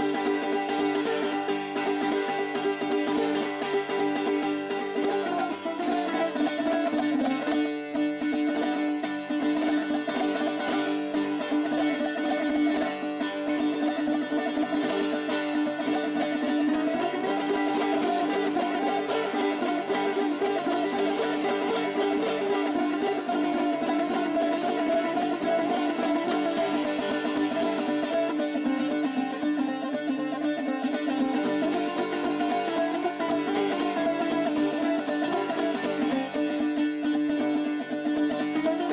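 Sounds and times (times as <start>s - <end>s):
plucked lute improvisation: 0.0s - 38.9s.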